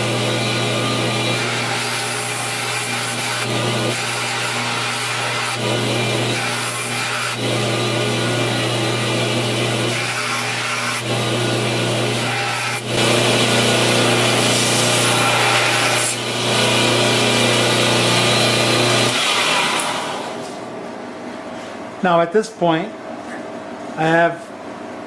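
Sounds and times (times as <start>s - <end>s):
belt grinder motor hum: 0.0s - 20.4s.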